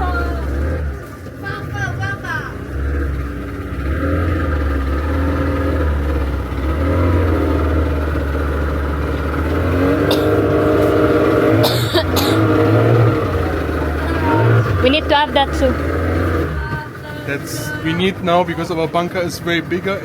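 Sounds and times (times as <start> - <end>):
vehicle engine changing speed: 0.0 - 20.0.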